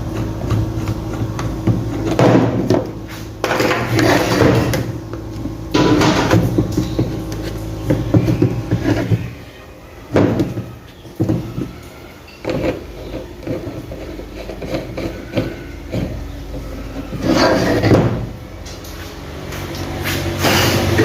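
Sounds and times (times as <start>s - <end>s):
knocks and clunks of motor handling: 0.0s - 21.0s
motor humming: 0.0s - 21.0s.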